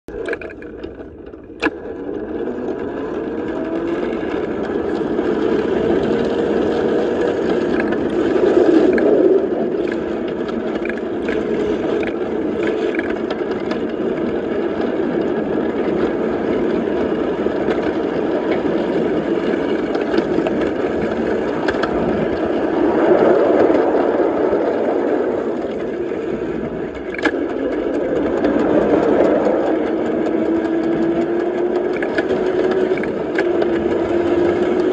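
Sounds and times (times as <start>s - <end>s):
wheels clicking over rails: 0.1s - 34.9s.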